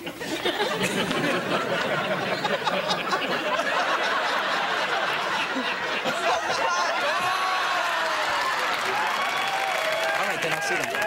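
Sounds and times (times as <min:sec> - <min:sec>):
audience laughing: 0:00.0 - 0:09.0.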